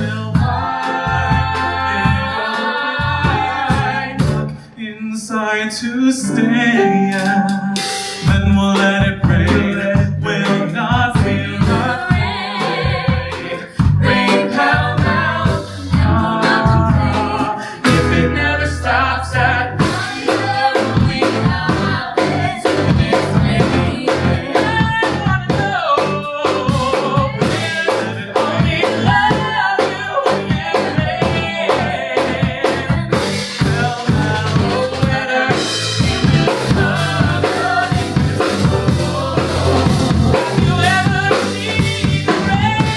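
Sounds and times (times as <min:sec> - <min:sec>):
drum kit: 0:00.0 - 0:04.7, 0:06.8 - 0:42.9
guitar: 0:00.0 - 0:04.8, 0:06.2 - 0:42.9
piano: 0:00.0 - 0:04.9, 0:05.8 - 0:42.9
bass: 0:00.0 - 0:42.9
voices singing: 0:00.0 - 0:42.9.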